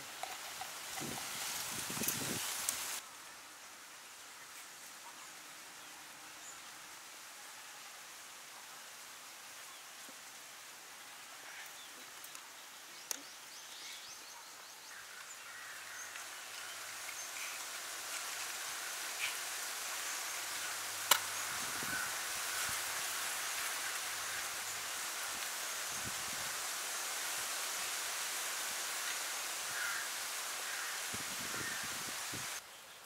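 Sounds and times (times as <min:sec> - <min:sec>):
outdoor background hiss: 0:00.0 - 0:33.0.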